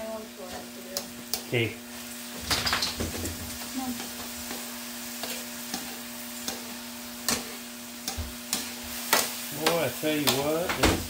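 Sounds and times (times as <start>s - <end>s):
chicken sizzling: 0.0s - 11.0s.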